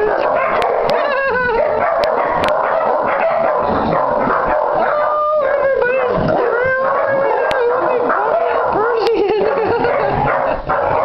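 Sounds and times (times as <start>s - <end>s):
puppies howling and yipping: 0.0s - 11.0s.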